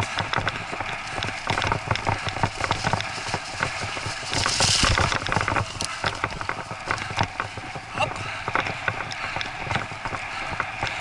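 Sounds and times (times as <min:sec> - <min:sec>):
bike rattling over rough trail: 0:00.0 - 0:11.0.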